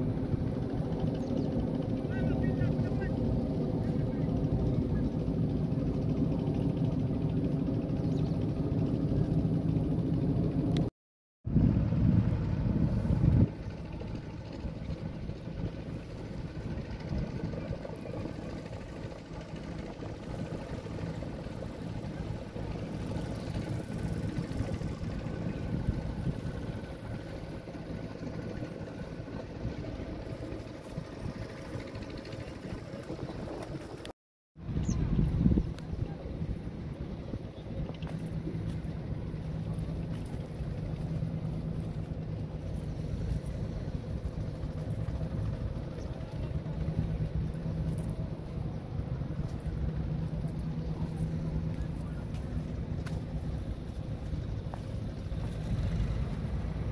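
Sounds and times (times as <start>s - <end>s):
motorboat engine droning: 0.0s - 10.9s, 11.5s - 56.9s
wind rumbling on microphone: 0.0s - 56.9s.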